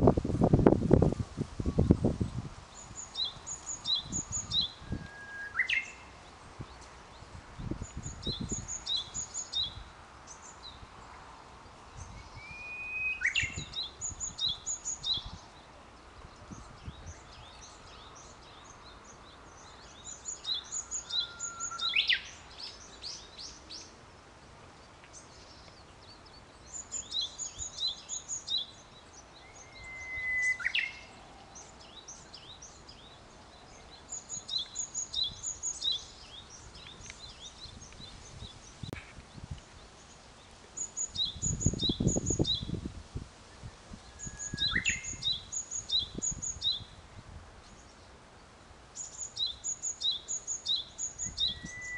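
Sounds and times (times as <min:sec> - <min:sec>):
songbirds singing: 0:01.7 - 0:51.9.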